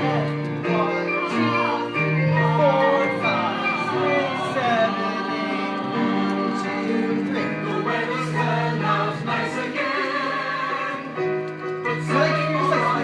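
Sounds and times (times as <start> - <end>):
choir singing sustained notes: 0.0 - 13.0
musical accompaniment: 0.0 - 13.0.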